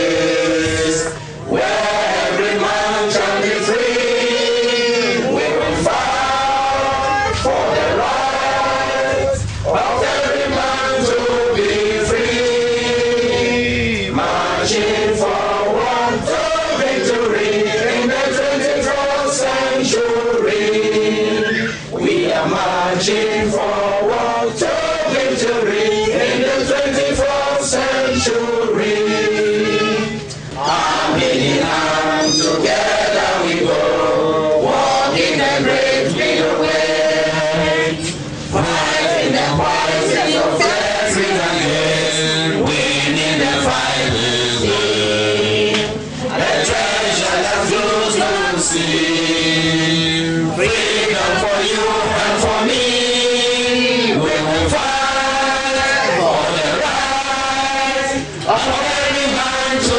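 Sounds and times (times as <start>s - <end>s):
group singing marching song: 0.0s - 59.9s.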